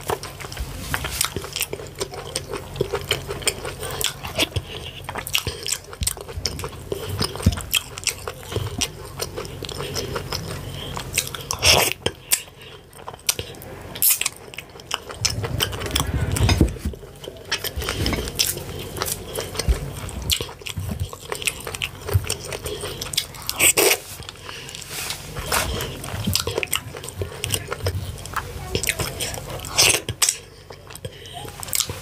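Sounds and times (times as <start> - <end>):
chewing with wet mouth clicks: 0.0 - 32.0.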